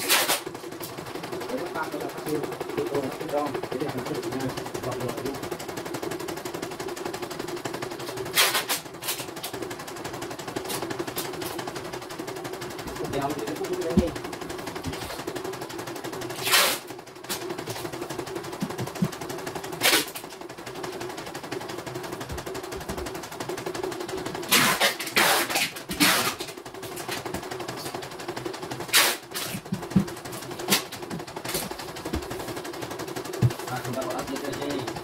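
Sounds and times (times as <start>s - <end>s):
embroidery machine stitching: 0.0s - 35.0s.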